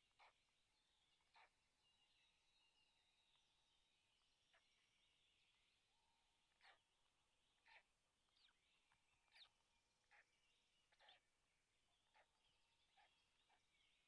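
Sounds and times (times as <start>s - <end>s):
faint background birdsong: 0.0s - 14.0s.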